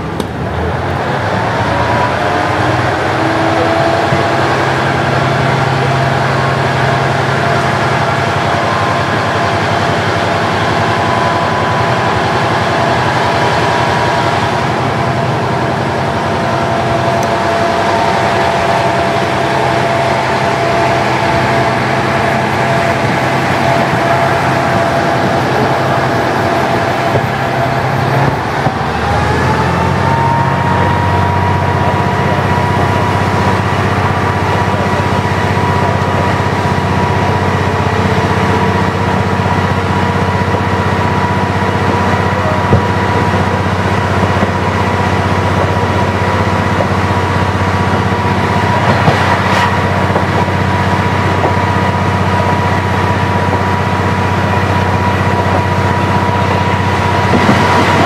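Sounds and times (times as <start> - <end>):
diesel railcar drone: 0.0 - 58.0
high whine: 0.0 - 58.0.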